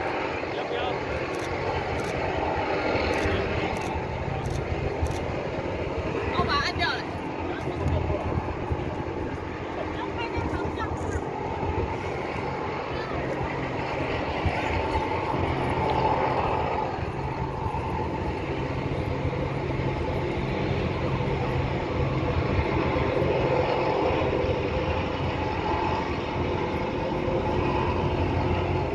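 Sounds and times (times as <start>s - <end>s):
hum: 0.0s - 28.9s
low engine drone: 0.0s - 28.9s.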